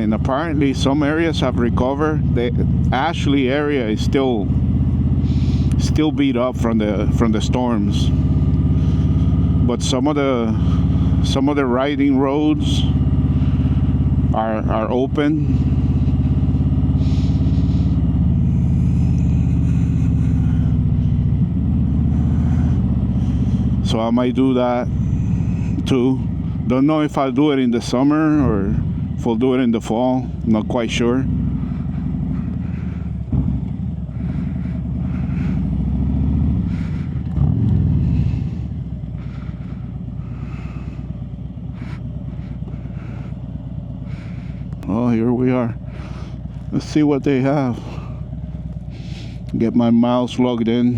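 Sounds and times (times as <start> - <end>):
engine revving: 0.0 - 50.9
motorcycle engine running: 0.0 - 50.9.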